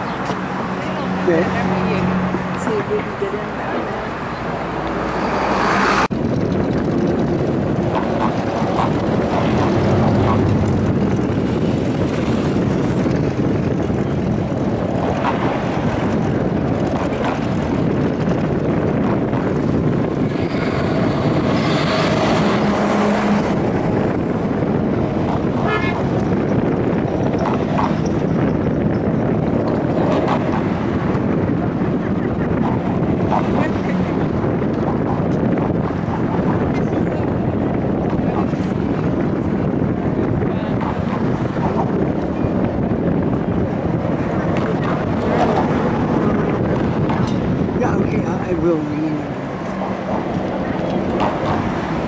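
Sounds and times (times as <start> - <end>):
passing traffic: 0.0 - 52.0
wind on microphone: 0.0 - 52.0.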